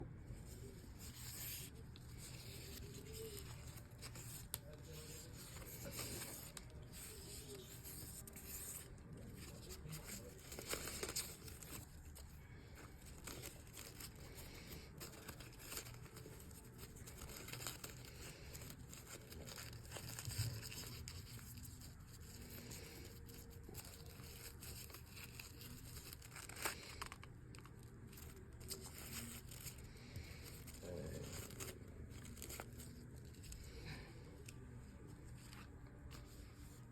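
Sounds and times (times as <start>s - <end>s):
low steady hum: 0.0s - 36.9s
ribbon rustling: 0.2s - 36.9s.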